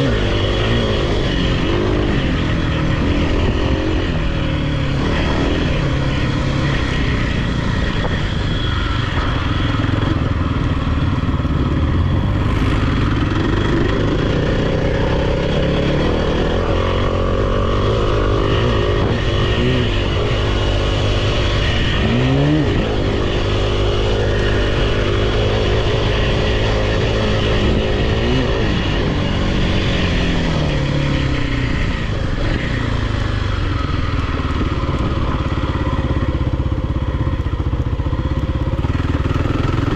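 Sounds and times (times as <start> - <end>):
off-road vehicle engines revving: 0.0 - 39.9.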